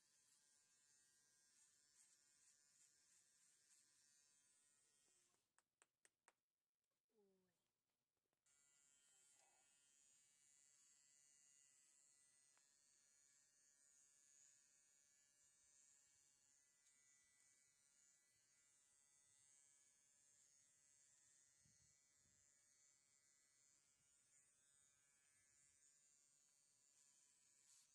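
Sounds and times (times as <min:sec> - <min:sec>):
electric clippers buzzing: 0:00.0 - 0:05.3, 0:08.5 - 0:27.9.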